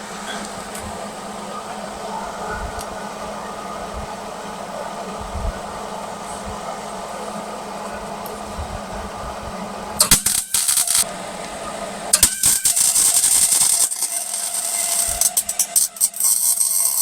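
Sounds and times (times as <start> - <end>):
steady hum: 0.0 - 17.0
welding arc crackling: 0.0 - 17.0.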